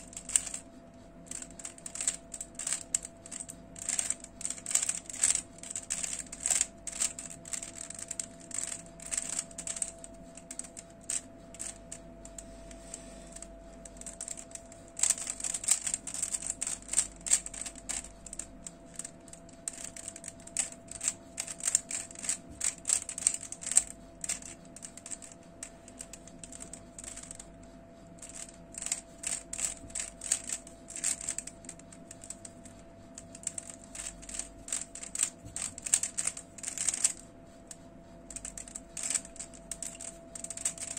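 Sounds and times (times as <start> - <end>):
puzzle cube clicking as turned: 0.2 - 0.6, 1.3 - 11.8, 13.4 - 19.1, 19.7 - 25.3, 28.2 - 32.6, 33.2 - 37.2, 38.3 - 40.9.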